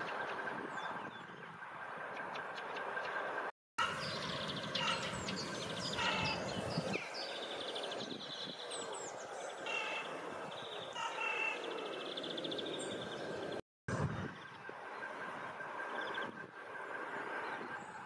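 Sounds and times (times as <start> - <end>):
small birds chirping and trilling: 0.0 - 18.0.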